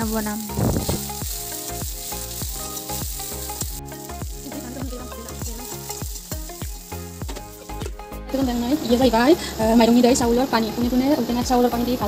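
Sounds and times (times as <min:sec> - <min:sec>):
instrumental background music: 0:00.0 - 0:12.0
vegetables sizzling in hot oil: 0:00.0 - 0:12.0.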